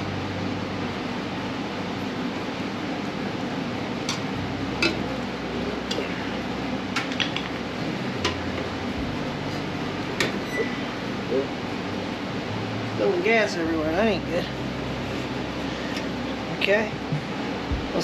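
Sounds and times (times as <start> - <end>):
steady background whir: 0.0 - 18.0.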